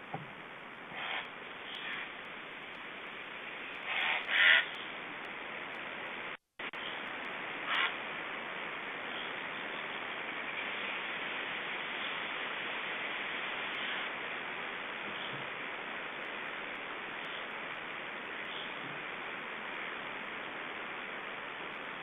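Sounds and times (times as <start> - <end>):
microphone hiss: 0.0 - 22.0.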